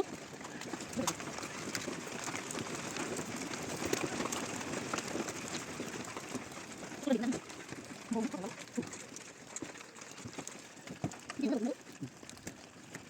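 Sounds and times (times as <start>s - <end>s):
hailstones clattering on hard surfaces: 0.0s - 13.0s.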